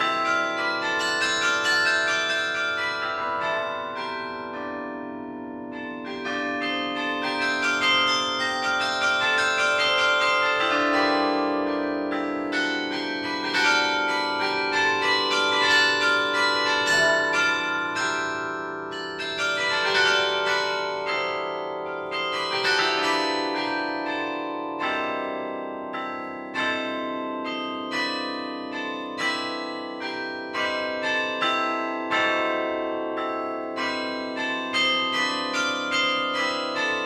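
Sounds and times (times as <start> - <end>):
carillon bells playing melody: 0.0 - 37.0
low bells ringing: 0.0 - 37.0.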